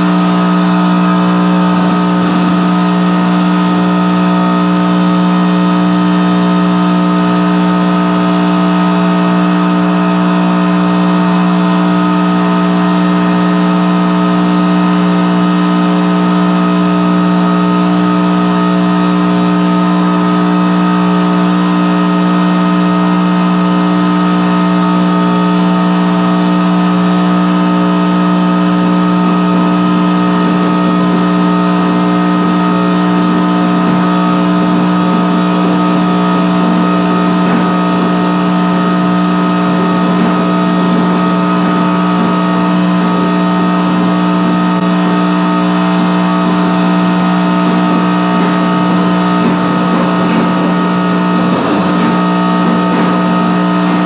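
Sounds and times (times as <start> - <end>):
electronic noise drone: 0.0 - 54.0.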